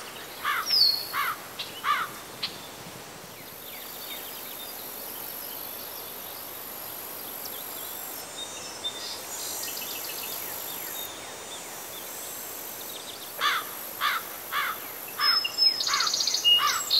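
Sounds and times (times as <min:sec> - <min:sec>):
high insect drone: 0:00.0 - 0:16.9.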